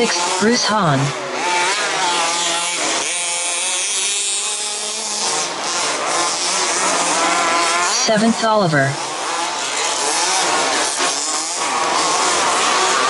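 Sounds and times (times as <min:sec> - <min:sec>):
rc car engines buzzing and revving: 0:00.0 - 0:13.0.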